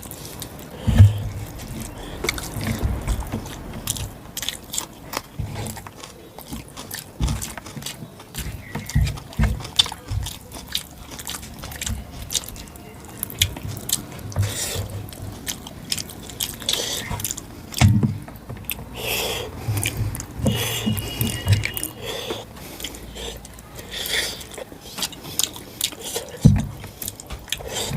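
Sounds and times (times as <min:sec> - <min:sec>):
chewing and wet mouth clicks: 0:00.0 - 0:27.9.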